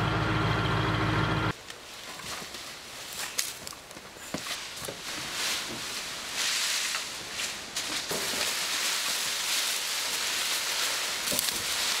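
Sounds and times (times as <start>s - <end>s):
leaves and branches rustling: 1.5s - 12.0s.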